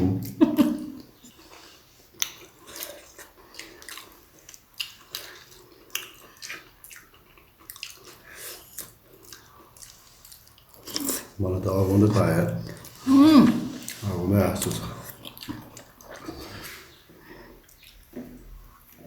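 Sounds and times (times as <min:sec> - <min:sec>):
wet chewing and lip smacks: 0:01.0 - 0:11.4, 0:13.7 - 0:19.0.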